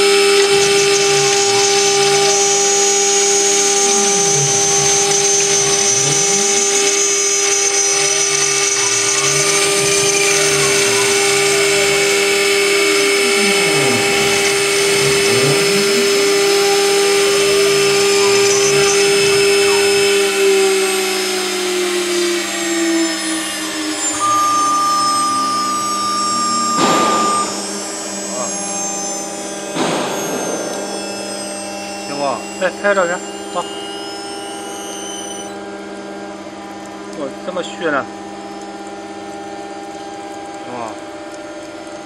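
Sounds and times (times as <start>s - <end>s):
milling spindle whining: 0.0s - 42.0s.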